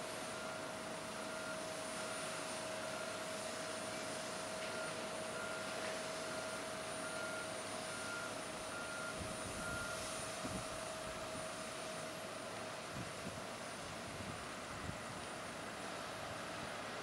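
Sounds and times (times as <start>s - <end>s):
jet machinery whine and hiss: 0.0s - 17.0s.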